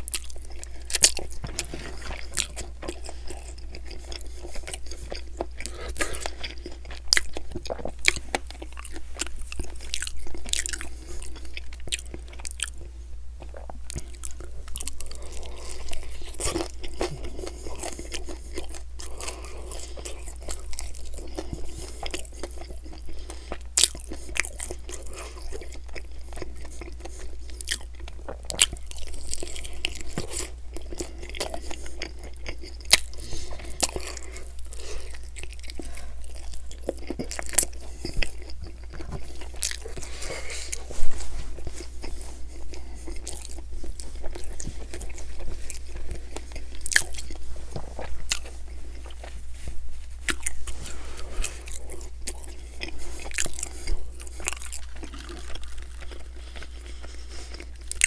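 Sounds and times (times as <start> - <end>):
crunchy bites and chewing: 0.0 - 49.4, 50.1 - 58.0.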